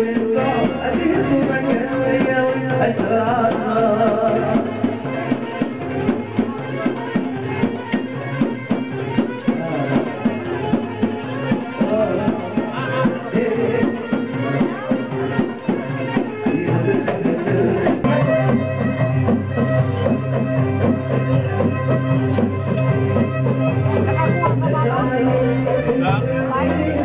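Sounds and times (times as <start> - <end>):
folk melody instrument: 0.0 - 27.0.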